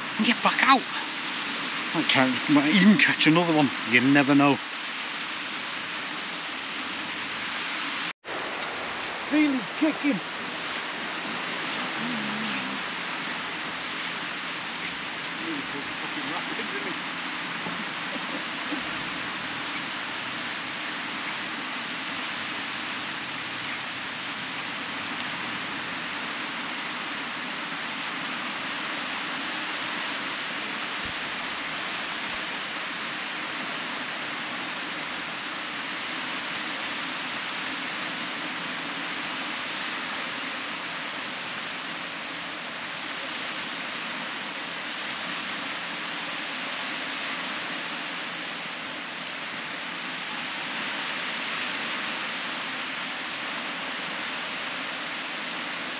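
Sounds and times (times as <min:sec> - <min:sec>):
small waves breaking on beach: 0:00.0 - 0:55.9.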